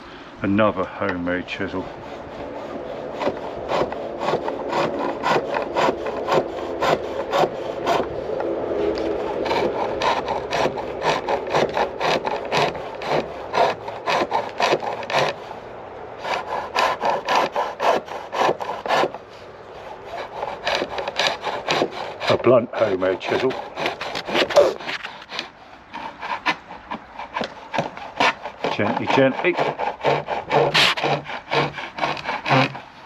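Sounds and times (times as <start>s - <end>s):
chisel scraping wood on lathe: 1.0s - 15.4s, 16.2s - 33.0s.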